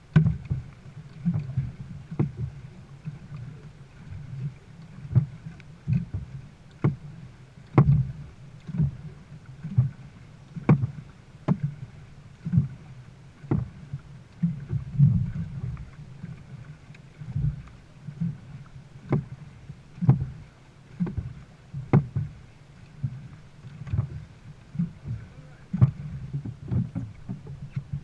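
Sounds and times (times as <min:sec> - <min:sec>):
paddles striking water: 0:00.0 - 0:28.0
water rumbling against hull: 0:00.0 - 0:28.0.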